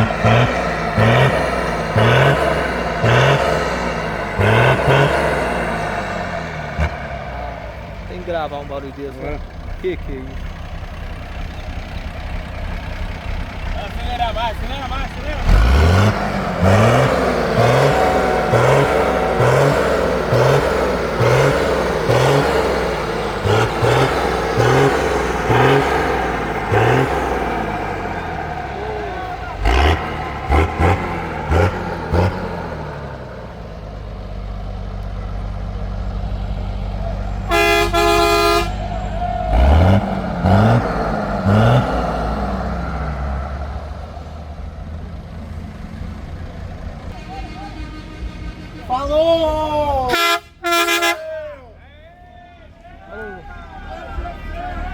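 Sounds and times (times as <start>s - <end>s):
diesel bus engine revving: 0.0s - 51.9s, 52.7s - 54.9s.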